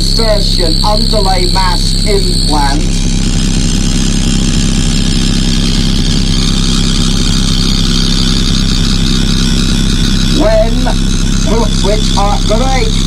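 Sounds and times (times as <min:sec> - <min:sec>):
low electronic noise drone: 0:00.0 - 0:13.0.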